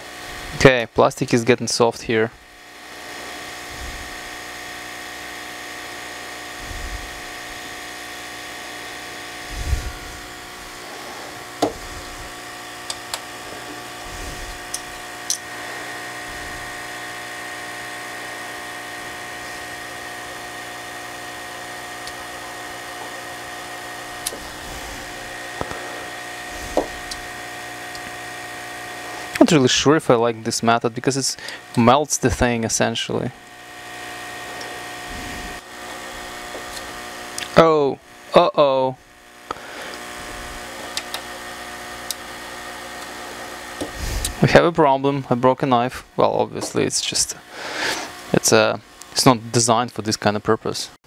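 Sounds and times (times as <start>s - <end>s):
heat gun fan whine: 0.0s - 50.9s.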